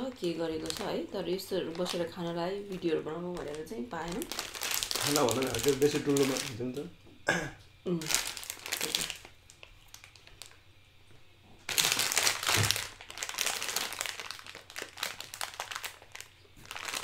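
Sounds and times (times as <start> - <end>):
plastic packaging crinkling: 0.0 - 6.8, 8.0 - 10.7, 11.6 - 17.0.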